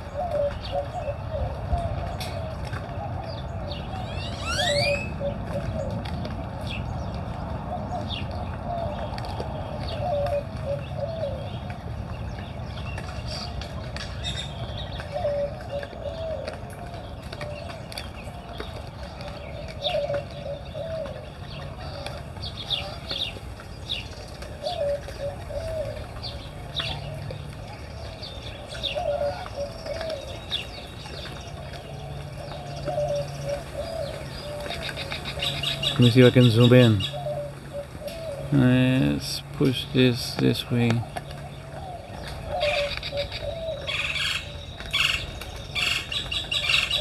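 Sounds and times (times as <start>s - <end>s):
doves cooing: 0.0s - 47.0s
small birds chirping: 0.0s - 47.0s.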